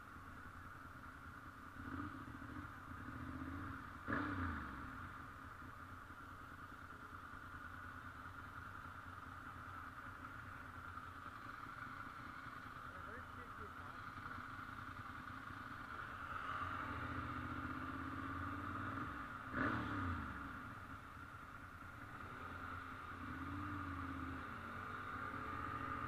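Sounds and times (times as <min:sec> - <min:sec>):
motorcycle engine revving: 0:01.6 - 0:05.8, 0:07.0 - 0:26.0.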